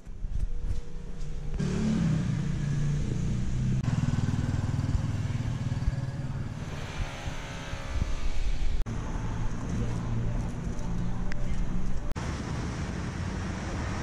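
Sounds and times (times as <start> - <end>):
motorbike engine running: 0.0 - 12.1.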